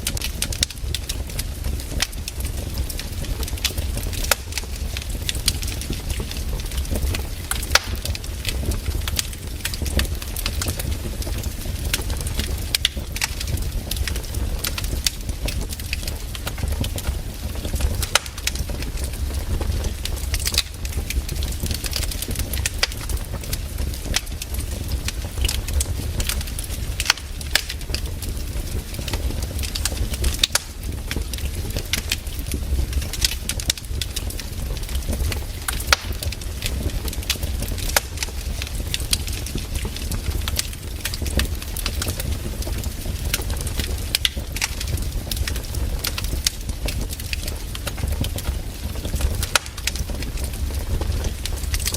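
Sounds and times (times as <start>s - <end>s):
firewood burning and crackling: 0.0s - 51.9s
low rumble of flames: 0.0s - 51.9s.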